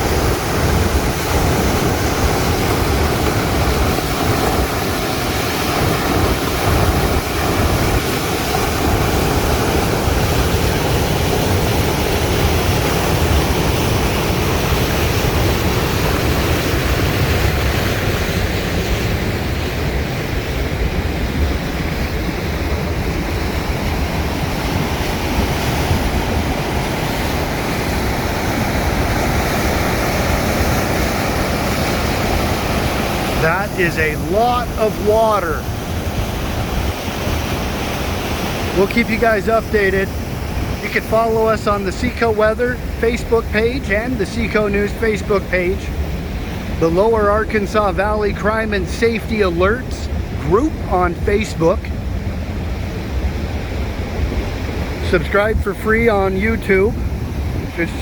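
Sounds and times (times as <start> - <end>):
river rushing: 0.0 - 58.0
wind buffeting microphone: 0.0 - 58.0.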